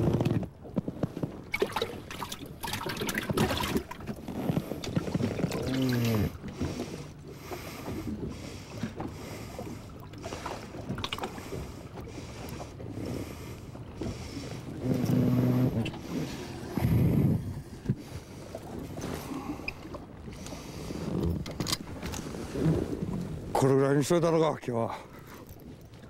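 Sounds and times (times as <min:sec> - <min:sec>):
knocks and clicks on a boat: 0:00.0 - 0:24.4
boat noise: 0:00.0 - 0:26.0
wind: 0:00.0 - 0:26.0
water splashing: 0:01.3 - 0:26.0.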